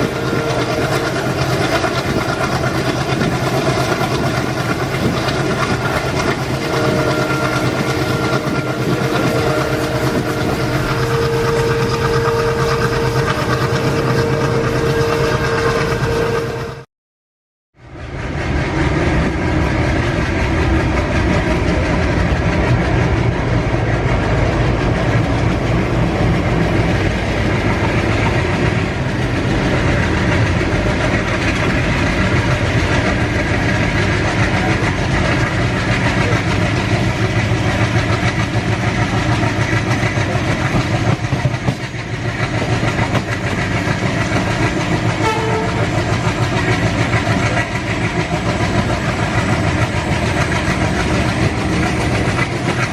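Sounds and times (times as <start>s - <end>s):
train wheels rumbling on track: 0.0s - 16.9s, 17.8s - 52.9s.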